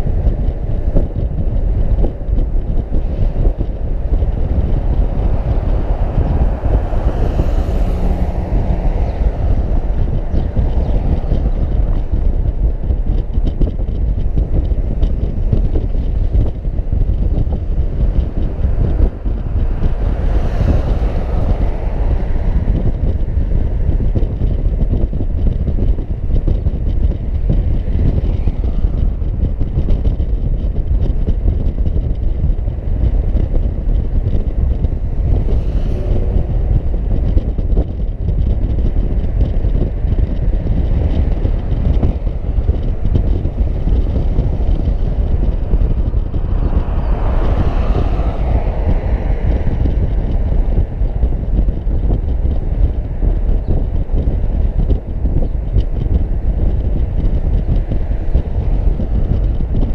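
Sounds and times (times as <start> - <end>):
car road noise: 0.0 - 59.9
wind buffeting microphone: 0.0 - 59.9.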